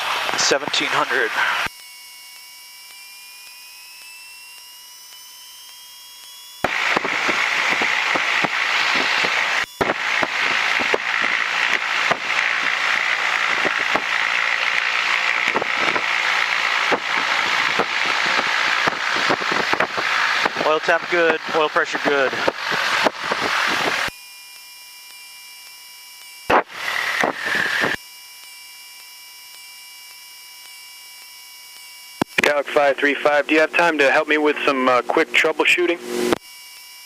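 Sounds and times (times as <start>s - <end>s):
aircraft engine at run-up: 0.0s - 37.0s
whine rising in pitch: 0.0s - 37.0s.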